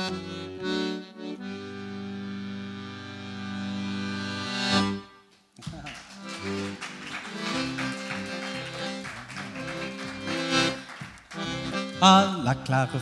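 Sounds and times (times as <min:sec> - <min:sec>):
accordion playing: 0:00.0 - 0:05.3, 0:05.9 - 0:13.0.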